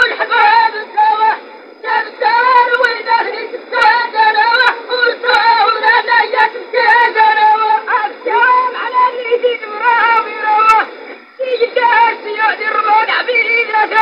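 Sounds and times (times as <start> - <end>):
man chanting a poem: 0.0 - 14.0.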